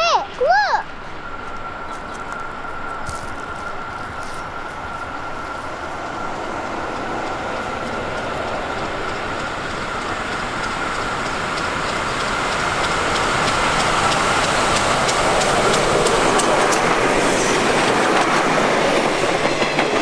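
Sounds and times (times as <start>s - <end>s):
steady high tone: 0.0s - 19.4s
steam train running: 0.0s - 20.0s
wheels clicking over rail joints: 0.1s - 20.0s.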